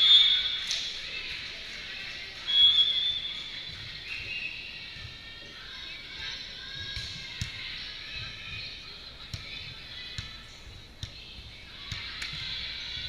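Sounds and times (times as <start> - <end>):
balls bouncing in a hall: 0.0 - 13.0.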